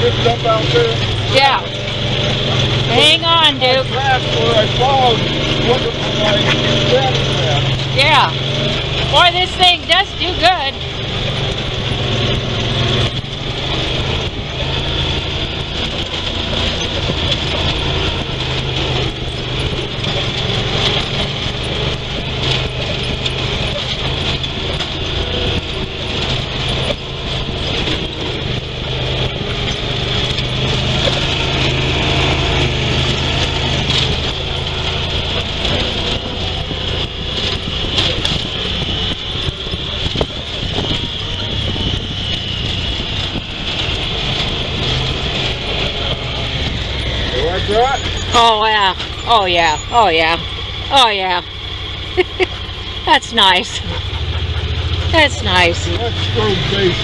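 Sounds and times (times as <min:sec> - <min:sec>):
knocks and rattles: 0:00.0 - 0:57.0
vehicle engine running: 0:00.0 - 0:57.0.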